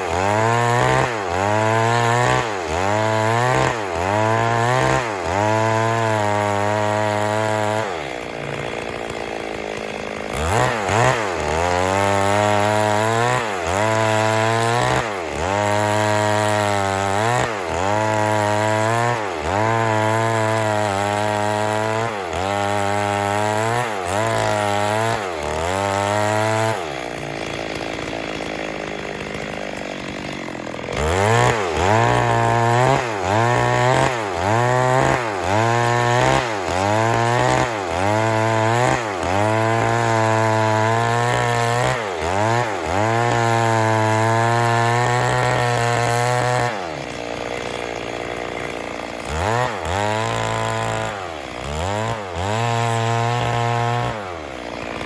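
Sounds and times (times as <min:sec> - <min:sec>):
chainsaw running: 0:00.0 - 0:55.0.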